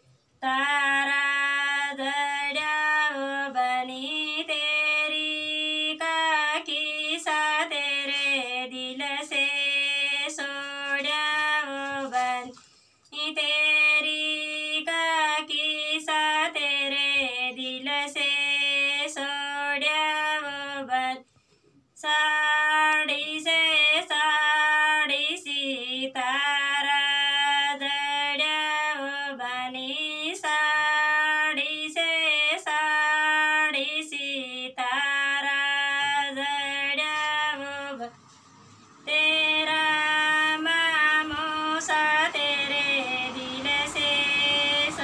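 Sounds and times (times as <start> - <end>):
woman singing folk melody: 0.0 - 45.0.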